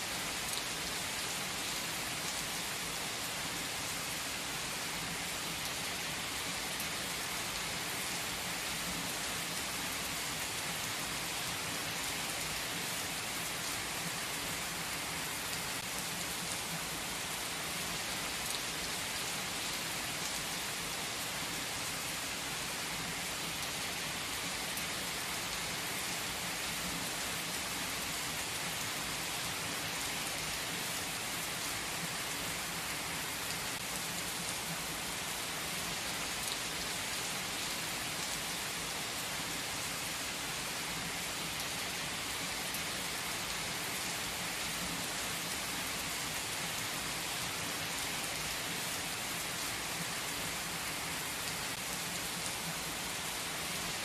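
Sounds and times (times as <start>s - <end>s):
heavy rain on asphalt: 0.0s - 54.0s.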